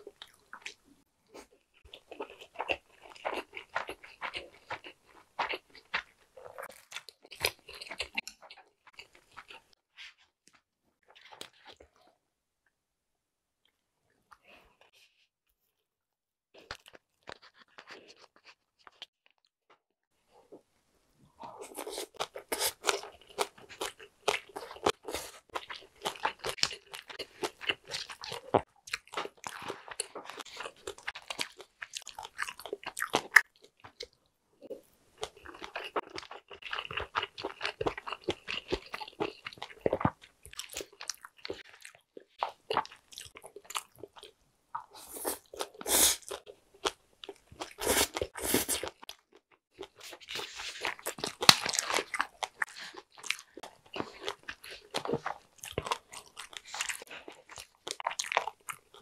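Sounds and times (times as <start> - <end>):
wet crunchy chewing: 0.0 - 12.0, 21.4 - 59.0.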